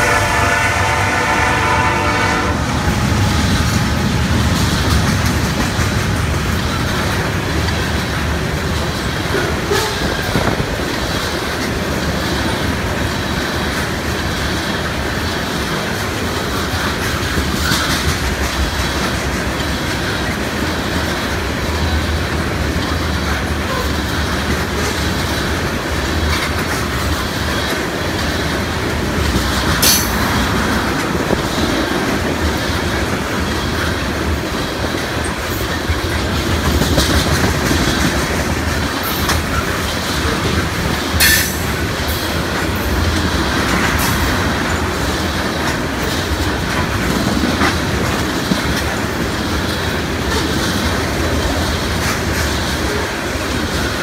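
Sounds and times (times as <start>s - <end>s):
train wheels rolling on rail: 0.0s - 54.0s.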